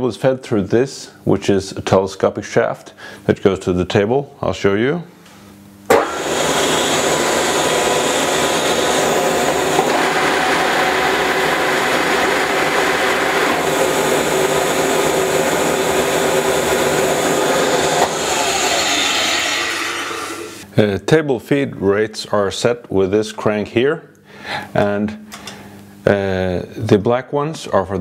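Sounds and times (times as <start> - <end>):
machine mechanical hum with whining: 0.0 - 28.0.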